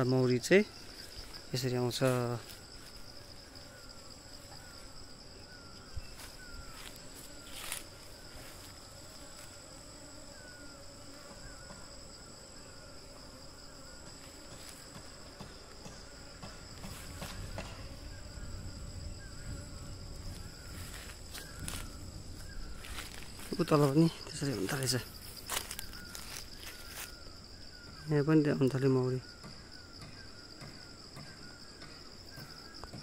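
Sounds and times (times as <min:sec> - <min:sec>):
high-pitched insect chirring: 0:00.0 - 0:33.0
honeybees buzzing: 0:00.0 - 0:33.0.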